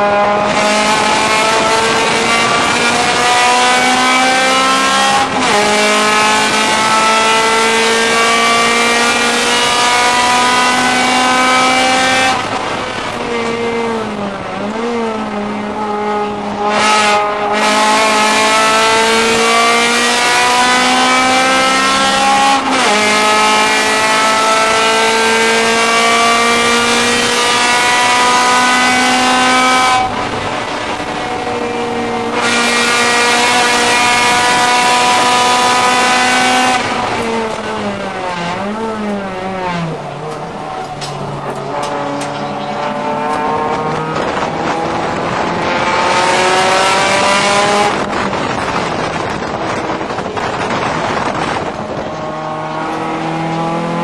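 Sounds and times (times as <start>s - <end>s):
race car engine from inside cabin: 0.0s - 54.0s.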